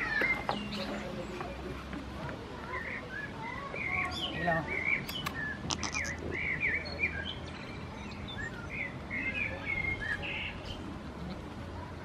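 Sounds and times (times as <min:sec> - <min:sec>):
songbirds chirping and warbling: 0:00.0 - 0:12.0.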